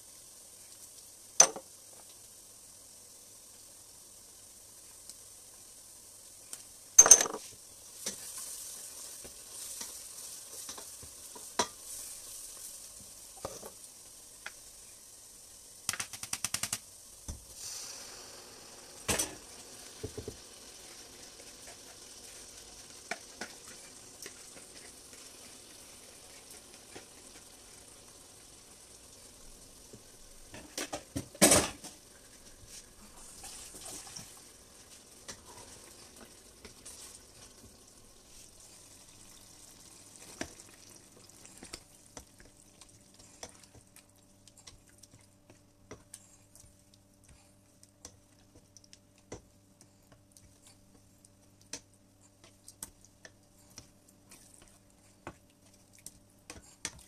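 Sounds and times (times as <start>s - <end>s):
stew sizzling in a pot: 0.0s - 57.0s.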